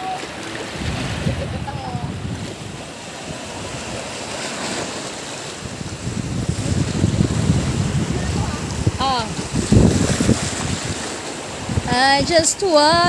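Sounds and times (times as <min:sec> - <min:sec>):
sea surf washing onto beach: 0:00.0 - 0:13.0
wind buffeting microphone: 0:00.6 - 0:13.0.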